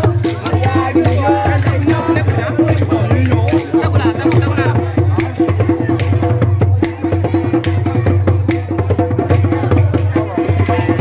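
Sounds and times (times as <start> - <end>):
drum-led music: 0.0 - 11.0.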